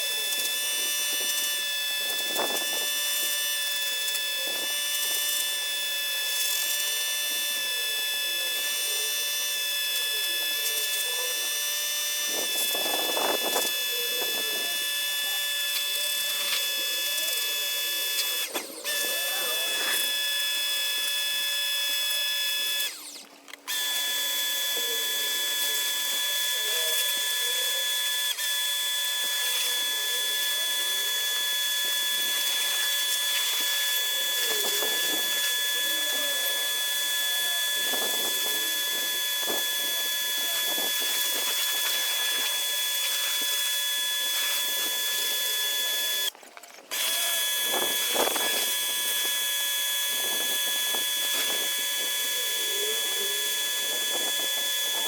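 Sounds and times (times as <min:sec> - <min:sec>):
pressure washer motor whine: 0:00.0 - 0:55.0.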